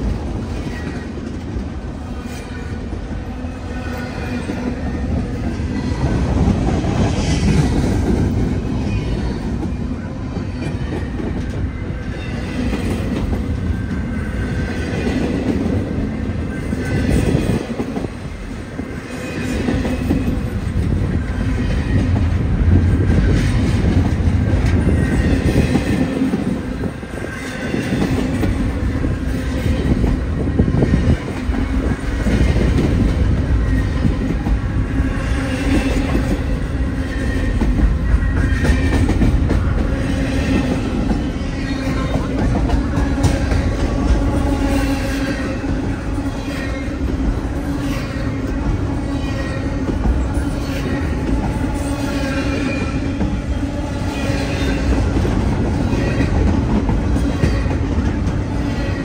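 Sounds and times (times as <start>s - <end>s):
freight train rumbling past: 0.0s - 59.0s
train wheels clacking on rail joints: 0.0s - 59.0s.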